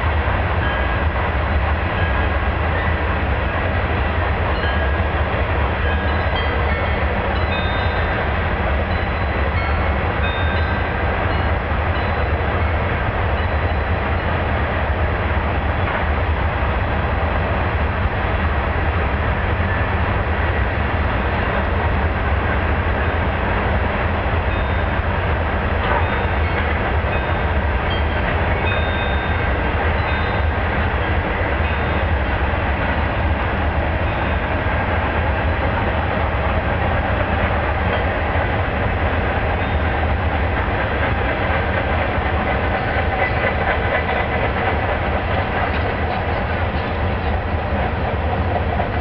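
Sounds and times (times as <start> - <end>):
freight train wheels rumbling: 0.0 - 49.0.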